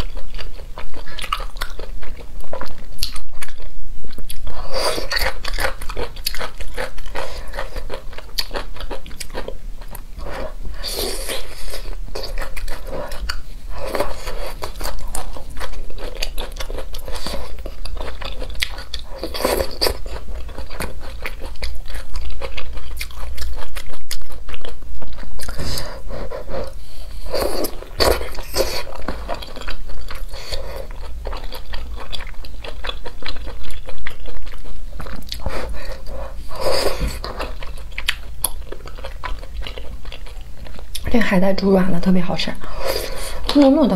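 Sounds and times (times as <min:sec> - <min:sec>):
person chewing noodles: 0:00.0 - 0:41.1, 0:42.6 - 0:43.9.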